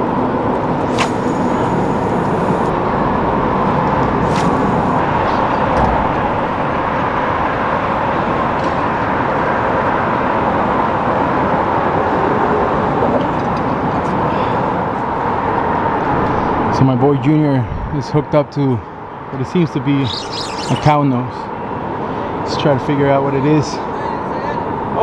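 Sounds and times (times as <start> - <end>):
highway traffic hum: 0.0 - 25.0.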